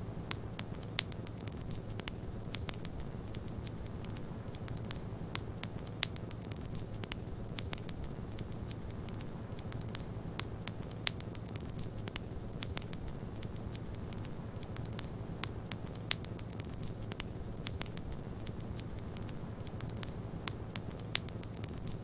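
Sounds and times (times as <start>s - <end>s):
wood fire crackling and popping: 0.2s - 22.0s.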